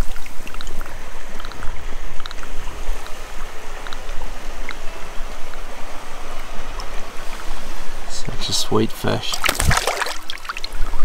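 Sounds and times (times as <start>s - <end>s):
river water rushing: 0.0s - 11.0s
water splashes and drips: 0.0s - 11.0s.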